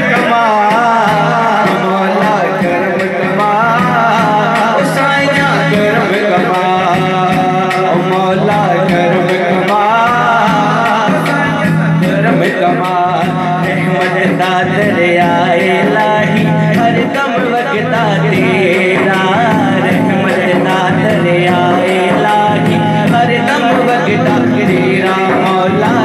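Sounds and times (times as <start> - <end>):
man singing into microphone: 0.0 - 26.0
steady drum beat: 0.0 - 26.0.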